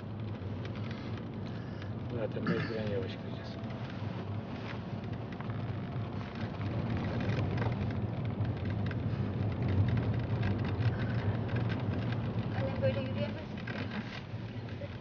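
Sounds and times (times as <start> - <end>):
car engine hum: 0.0 - 15.0
tyre and road noise: 0.0 - 15.0
faint crackling ticks: 0.1 - 15.0.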